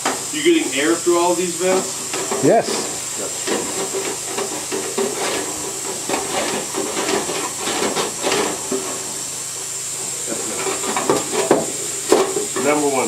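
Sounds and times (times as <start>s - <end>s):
knocks and rattles in ductwork: 0.0s - 13.0s
vacuum machine rushing hiss: 0.0s - 13.0s.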